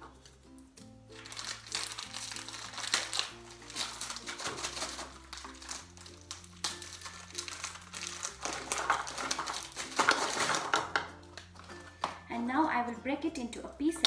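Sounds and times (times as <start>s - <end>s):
background music: 0.0s - 14.0s
plastic packets crinkling: 0.2s - 12.4s.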